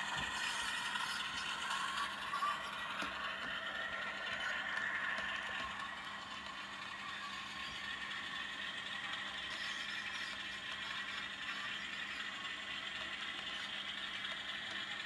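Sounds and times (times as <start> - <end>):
model train wagons rattling: 0.0 - 15.0.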